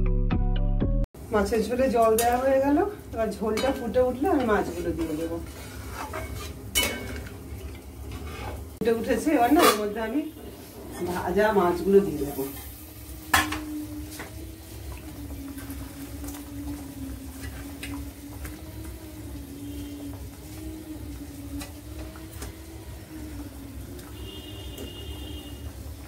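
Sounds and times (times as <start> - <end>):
broth boiling in a pan: 1.2 - 26.0.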